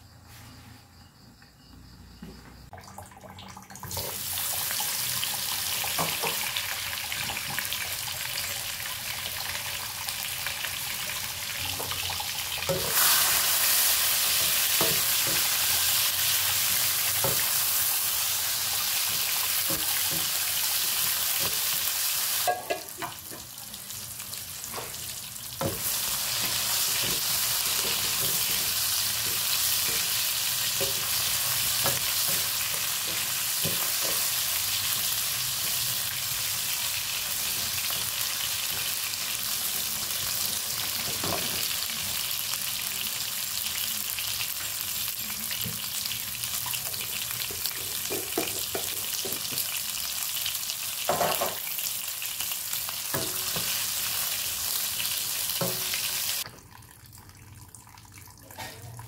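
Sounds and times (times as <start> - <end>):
mushroom frying in oil: 3.8 - 56.6.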